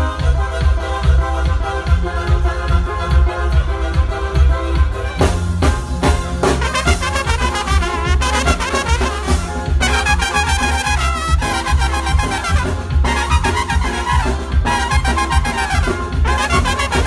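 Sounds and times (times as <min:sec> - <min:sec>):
brass band music: 0:00.0 - 0:17.0
drums: 0:00.0 - 0:17.0
trumpets playing melody: 0:00.0 - 0:17.0.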